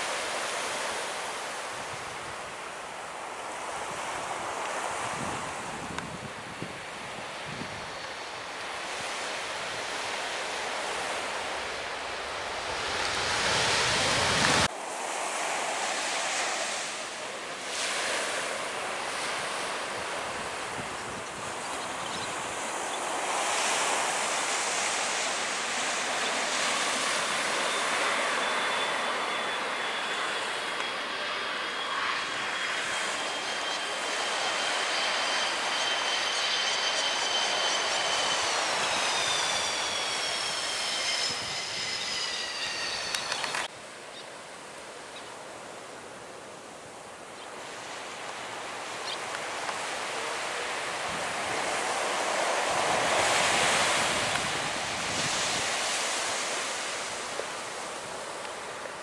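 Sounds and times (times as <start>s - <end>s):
jet engine whine: 0.0s - 43.7s, 47.5s - 59.0s.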